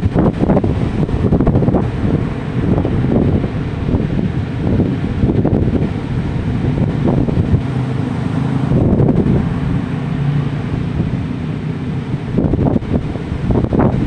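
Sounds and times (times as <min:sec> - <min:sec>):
sea waves washing ashore: 0:00.0 - 0:14.0
wind buffeting microphone: 0:00.0 - 0:14.0.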